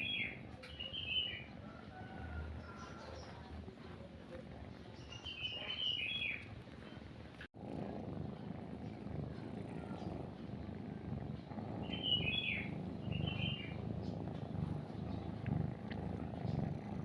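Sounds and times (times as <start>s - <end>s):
small birds chirping: 0.0s - 7.1s, 7.8s - 17.0s
cat purring: 0.0s - 17.0s.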